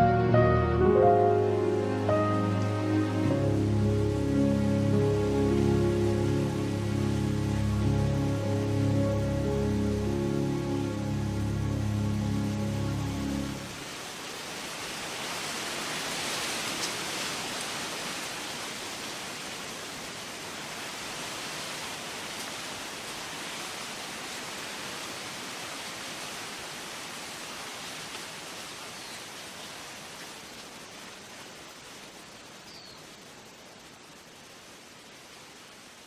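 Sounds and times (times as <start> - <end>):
rushing outdoor hiss: 0.0 - 36.0.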